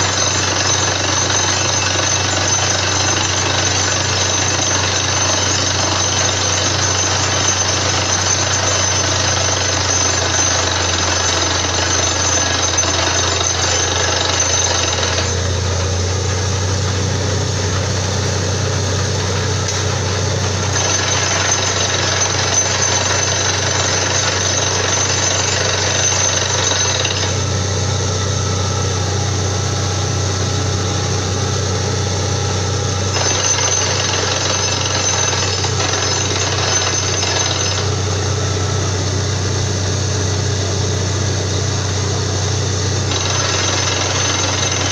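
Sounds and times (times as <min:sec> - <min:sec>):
drilling rig running: 0:00.0 - 0:44.9.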